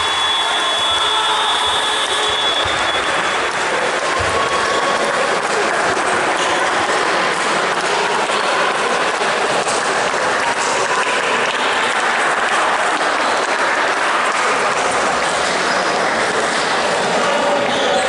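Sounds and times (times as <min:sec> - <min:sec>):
spectators applauding: 0:00.0 - 0:17.2.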